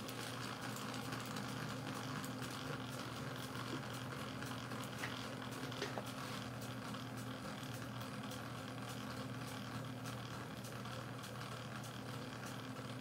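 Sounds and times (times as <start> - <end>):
steam engine low hum: 0.0 - 13.0.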